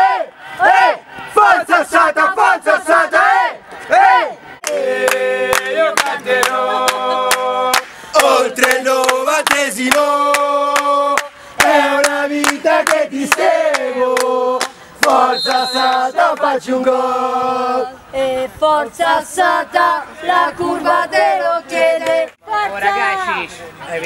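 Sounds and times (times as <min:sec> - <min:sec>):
football crowd chanting: 0:00.0 - 0:23.3.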